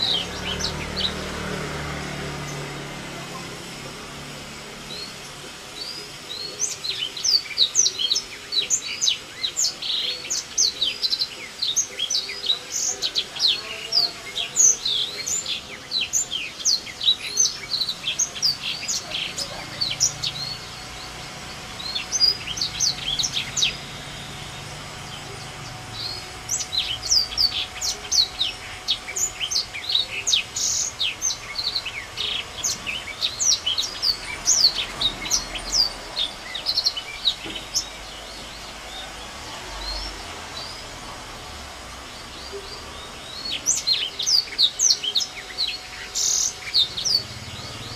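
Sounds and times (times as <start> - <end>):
songbird chirping and whistling: 4.9 - 41.2, 42.2 - 47.9.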